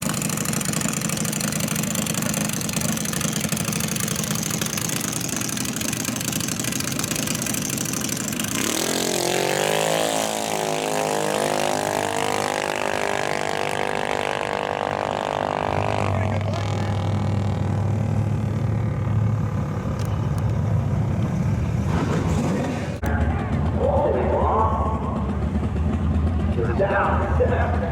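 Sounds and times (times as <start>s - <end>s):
dragster engine accelerating: 0.0s - 27.9s.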